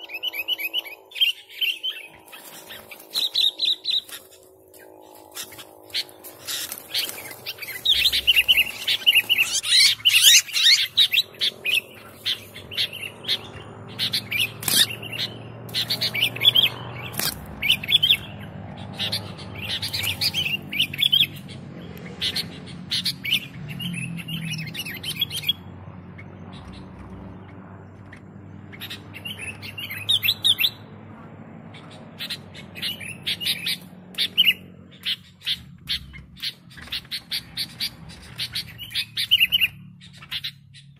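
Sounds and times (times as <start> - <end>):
bird chirping song: 0.0 - 40.9.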